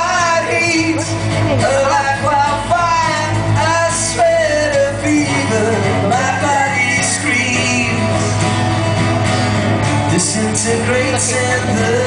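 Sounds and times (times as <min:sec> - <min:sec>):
man singing lead vocal: 0:00.0 - 0:09.1, 0:09.9 - 0:12.0
acoustic guitars strumming: 0:00.0 - 0:12.0
drums: 0:00.0 - 0:12.0.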